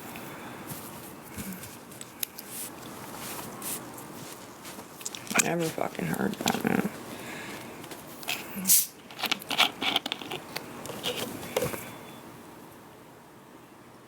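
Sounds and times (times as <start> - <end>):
rustling and scraping: 0.6 - 12.0.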